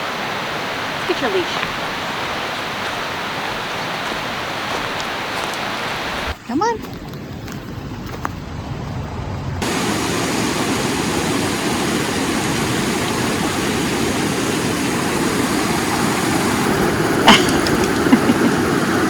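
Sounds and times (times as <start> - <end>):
rushing river water: 0.0 - 7.6, 9.6 - 19.0.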